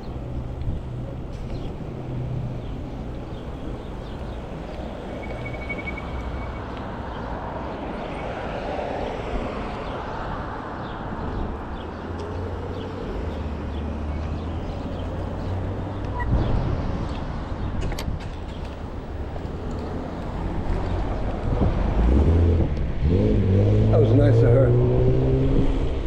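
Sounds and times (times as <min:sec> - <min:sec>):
passing vehicle: 0:00.0 - 0:26.0
road noise and wind rumble: 0:00.0 - 0:26.0.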